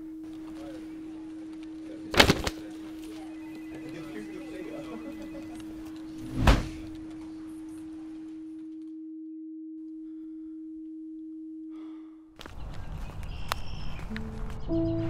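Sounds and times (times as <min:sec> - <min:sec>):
steady pure tone: 0:00.0 - 0:12.4.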